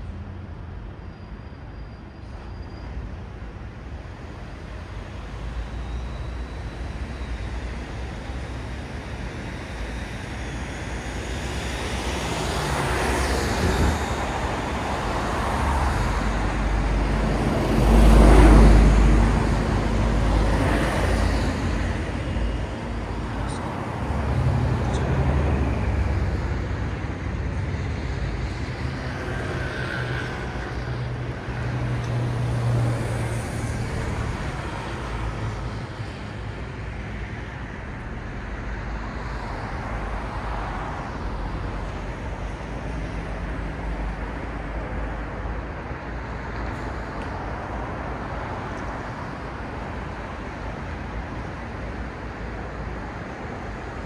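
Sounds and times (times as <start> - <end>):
low traffic rumble: 0.0 - 54.0
passing vehicles: 0.0 - 54.0.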